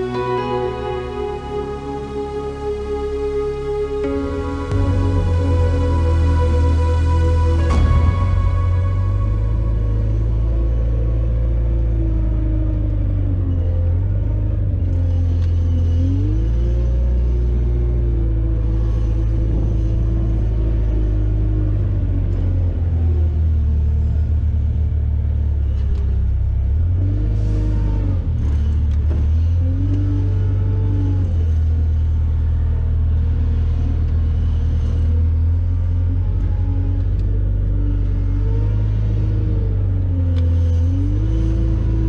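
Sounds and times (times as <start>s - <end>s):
diesel engine rumbling: 0.0s - 42.0s.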